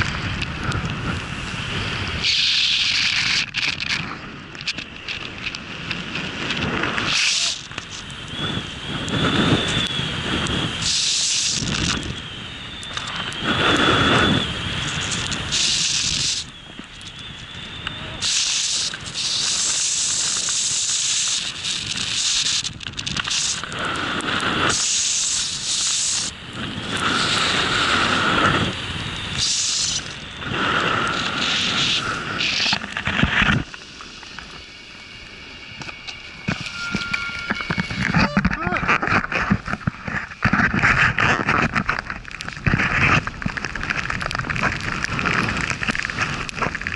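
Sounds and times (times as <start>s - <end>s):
snowboard sliding through powder: 0.0s - 46.9s.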